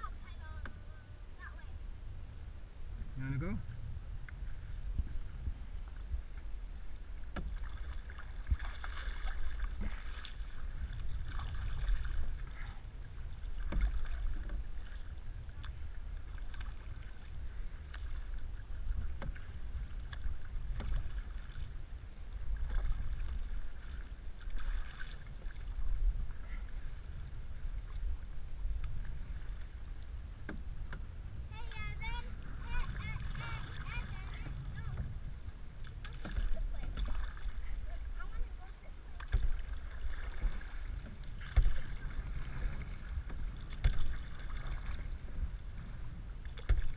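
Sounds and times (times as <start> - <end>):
paddle strokes in water: 0.0 - 46.9
water washing along hull: 0.0 - 46.9
wind rumble on microphone: 0.0 - 46.9.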